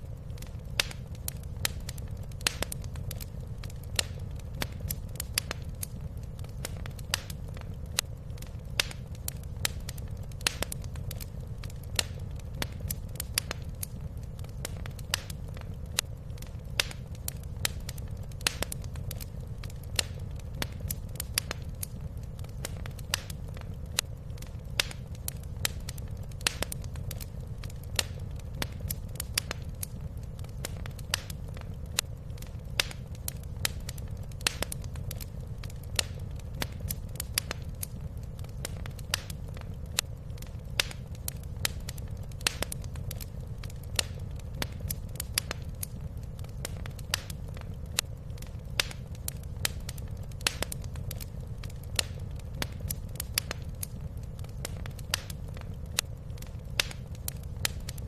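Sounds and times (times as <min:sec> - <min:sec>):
wood fire crackling in fireplace: 0:00.0 - 0:58.0.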